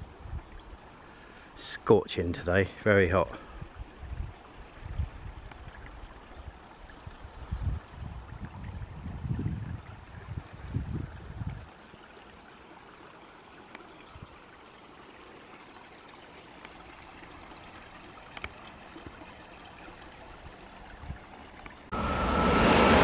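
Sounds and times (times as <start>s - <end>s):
stream trickling over stones: 0.0s - 22.0s.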